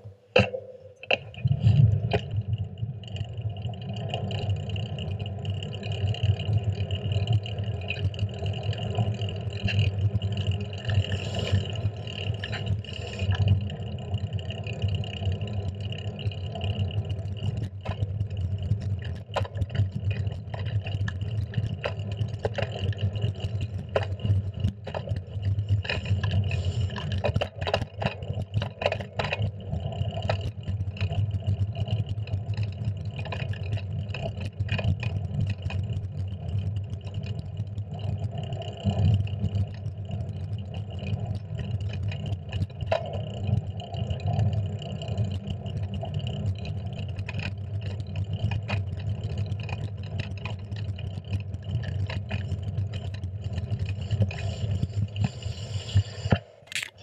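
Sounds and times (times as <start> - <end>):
bicycle clicks and rattles: 0.4 - 57.0.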